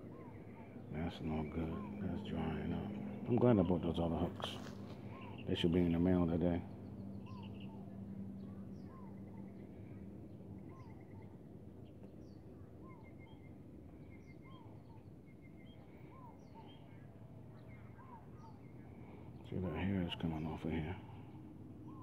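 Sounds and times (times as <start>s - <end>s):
bird trill: 0.0s - 22.0s
birds chirping: 0.0s - 22.0s
low steady hum: 0.0s - 22.0s.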